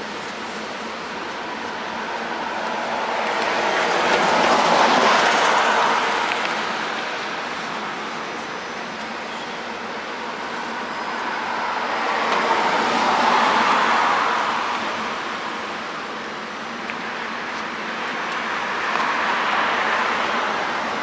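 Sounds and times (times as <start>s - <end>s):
steady traffic noise: 0.0s - 21.0s.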